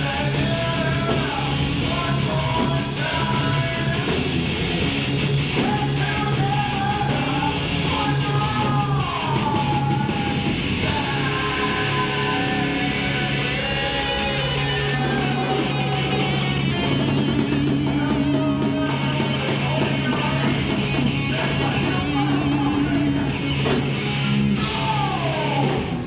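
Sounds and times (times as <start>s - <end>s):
electric guitar: 0.0s - 26.0s
live rock band playing: 0.0s - 26.0s.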